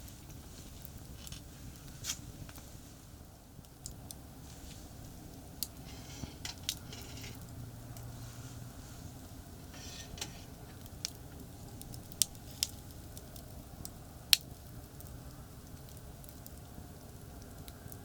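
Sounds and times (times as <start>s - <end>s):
campfire crackling and popping: 0.0s - 18.0s
distant highway traffic rumble: 0.0s - 18.0s.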